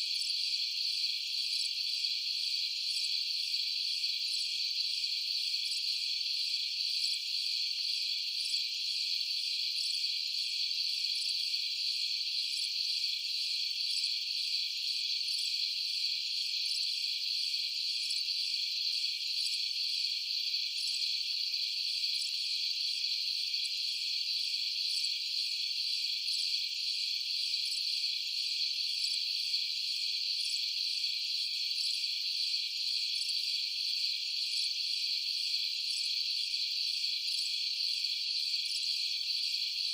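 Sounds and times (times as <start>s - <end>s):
crickets and night insects chirping: 0.0s - 39.9s.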